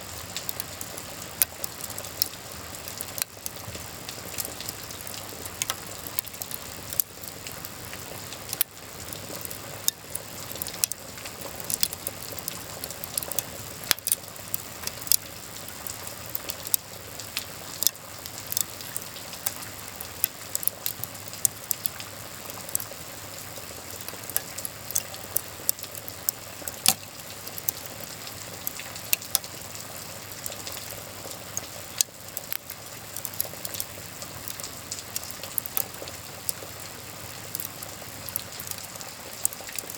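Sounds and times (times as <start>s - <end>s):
rain hiss: 0.0s - 39.9s
wood fire crackling and popping: 0.0s - 39.9s.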